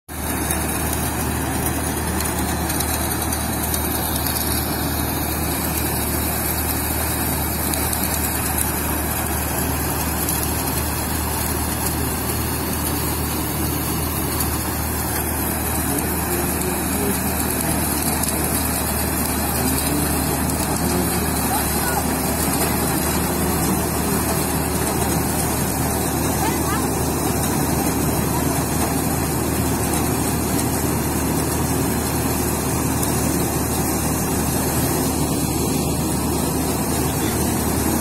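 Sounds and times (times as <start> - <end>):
thresher mechanical drone: 0.1 - 38.0.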